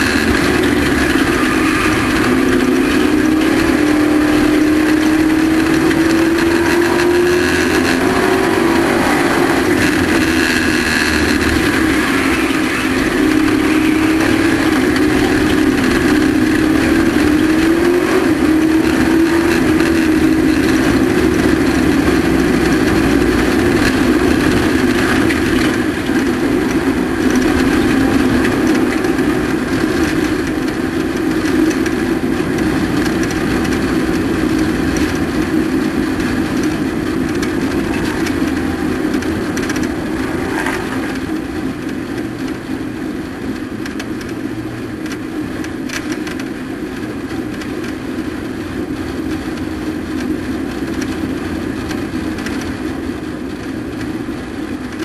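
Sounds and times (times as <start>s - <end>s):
truck engine at high revs: 0.0s - 55.0s.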